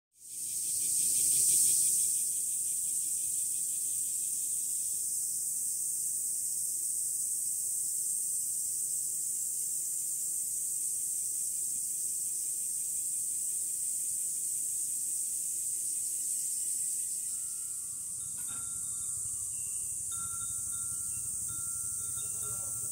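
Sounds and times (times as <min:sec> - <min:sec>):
cicadas shrilling: 0:00.2 - 0:22.9
faint pulsing insect layer: 0:00.2 - 0:22.9.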